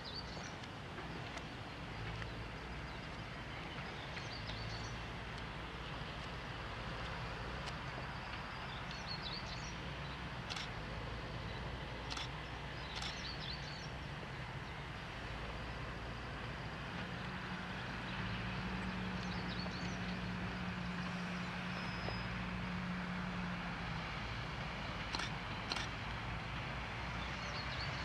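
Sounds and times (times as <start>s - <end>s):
distant excavator diesel engine: 0.0s - 28.0s.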